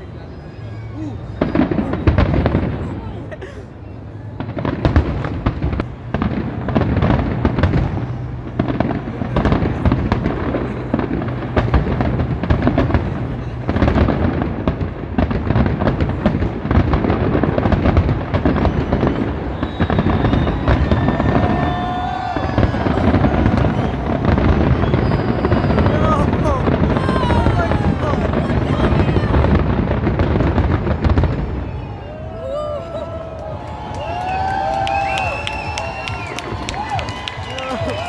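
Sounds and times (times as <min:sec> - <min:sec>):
fireworks booming and crackling: 0:00.3 - 0:38.0.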